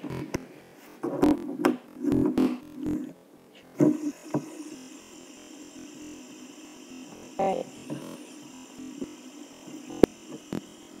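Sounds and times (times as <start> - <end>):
fidget spinner whirring: 0.0 - 11.0.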